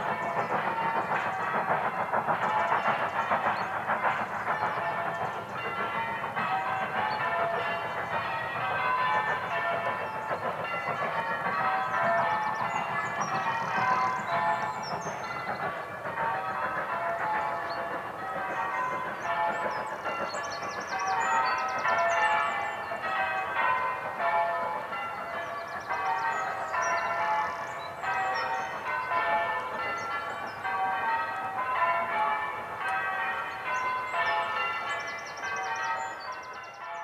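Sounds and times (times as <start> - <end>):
church bells ringing: 0.0 - 2.0, 4.8 - 15.5, 16.1 - 37.0.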